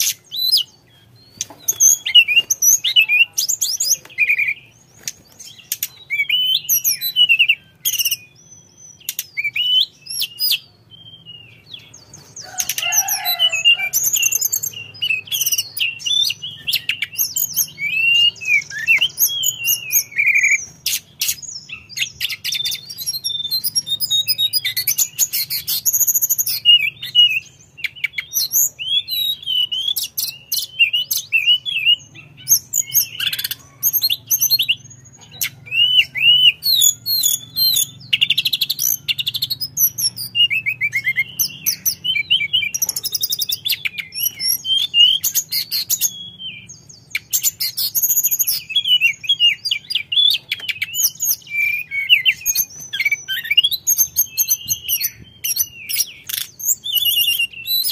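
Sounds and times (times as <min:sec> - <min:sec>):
bird singing whistled phrases: 0:00.0 - 0:57.9.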